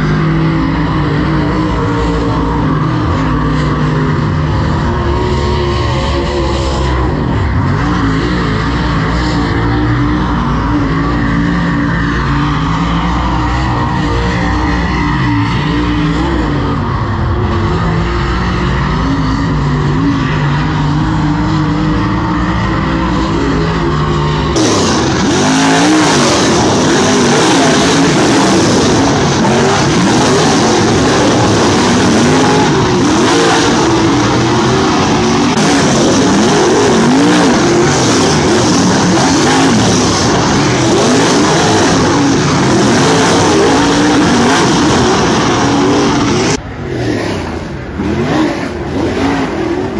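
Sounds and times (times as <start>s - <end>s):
race car engine idling: 0.0s - 46.8s
race cars racing on dirt track: 0.0s - 49.9s.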